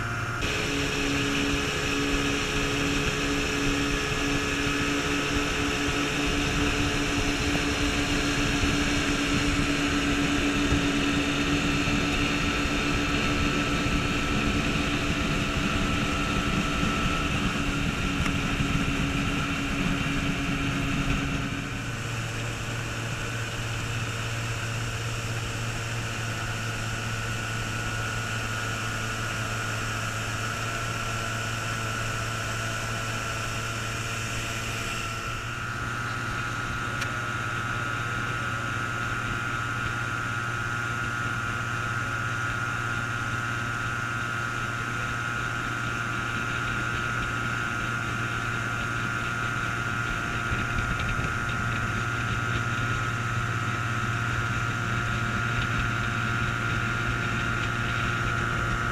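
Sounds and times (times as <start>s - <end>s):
outboard motor running: 0.0s - 58.9s.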